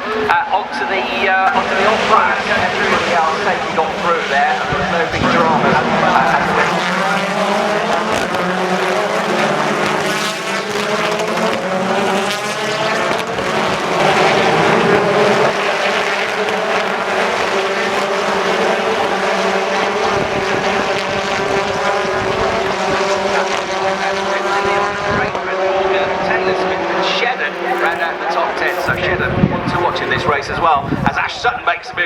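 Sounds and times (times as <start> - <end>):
racing car engines: 0.0 - 32.0.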